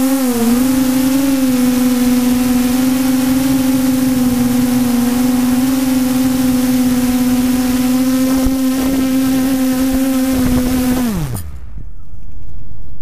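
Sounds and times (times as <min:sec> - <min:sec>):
drone motors humming: 0:00.0 - 0:13.0.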